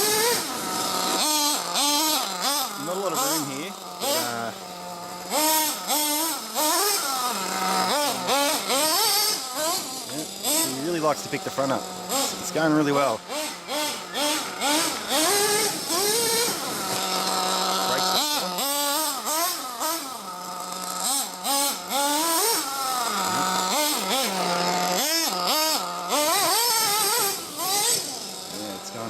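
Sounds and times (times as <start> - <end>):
rc truck engine revving: 0.0 - 29.0.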